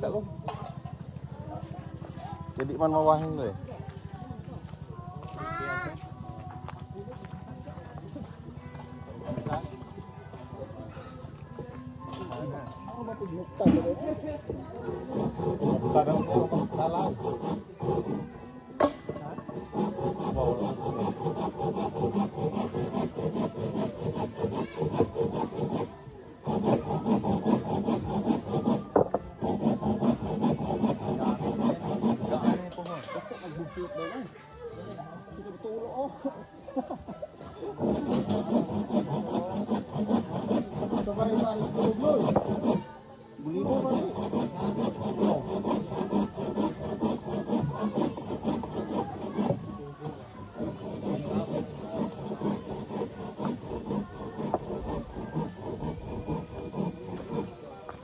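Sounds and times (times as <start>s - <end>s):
rasping strokes on wood: 0.0s - 34.3s, 37.4s - 58.0s
wood rubbing on wood: 1.9s - 33.3s, 37.5s - 58.0s.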